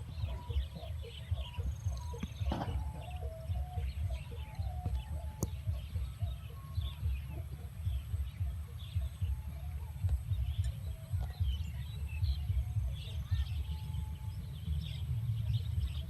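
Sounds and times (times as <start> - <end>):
irregular low rumble: 0.0 - 16.0
small birds chirping: 0.0 - 16.0.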